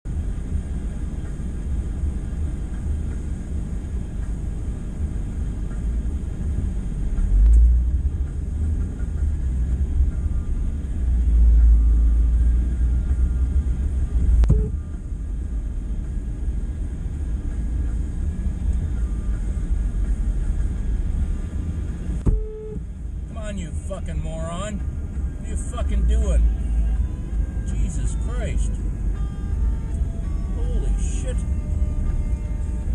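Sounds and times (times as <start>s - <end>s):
car engine and road noise: 0.0s - 32.9s.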